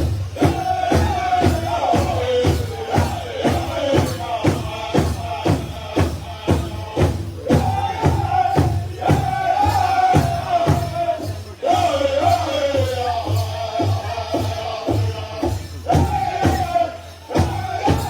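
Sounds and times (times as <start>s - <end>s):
big drum beating: 0.0s - 18.0s
group singing high long notes: 0.0s - 18.0s.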